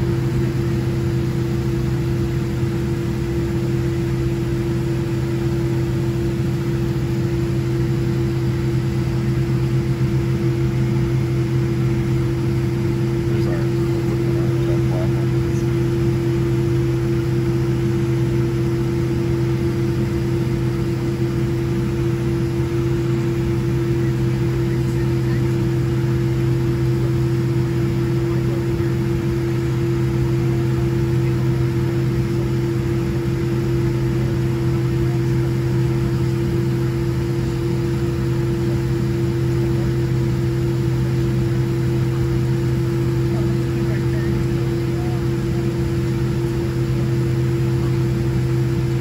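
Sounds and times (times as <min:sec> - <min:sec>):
aircraft cabin drone: 0:00.0 - 0:49.0.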